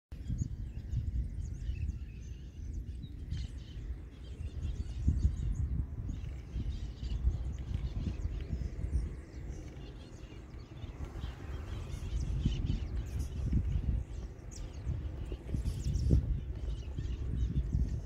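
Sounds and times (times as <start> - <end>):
small birds chirping: 0.1 - 18.0
wind on microphone: 0.1 - 18.0.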